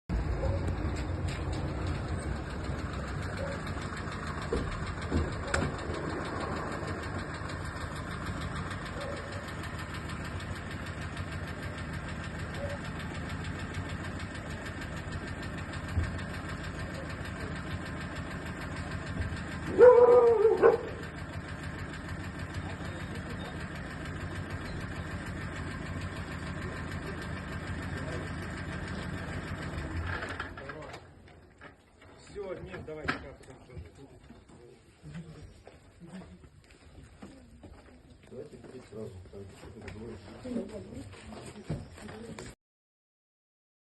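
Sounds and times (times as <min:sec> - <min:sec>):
vehicle engine idling: 0:00.1 - 0:42.6.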